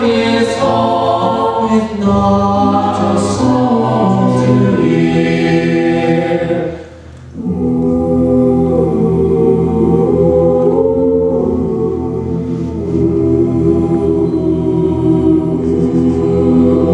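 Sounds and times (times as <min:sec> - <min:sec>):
a cappella group singing harmony: 0:00.0 - 0:16.9.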